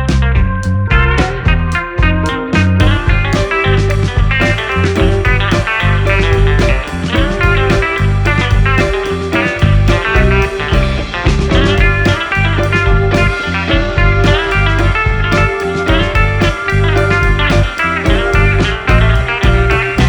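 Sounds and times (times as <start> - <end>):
guitar-led blues-rock music: 0.0 - 20.0.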